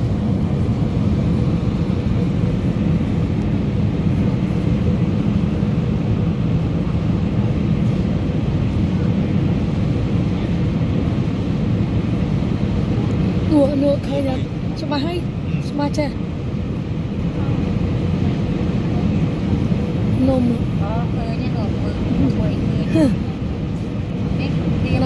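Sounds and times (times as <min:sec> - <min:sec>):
jet engine and airflow rush: 0:00.0 - 0:25.0.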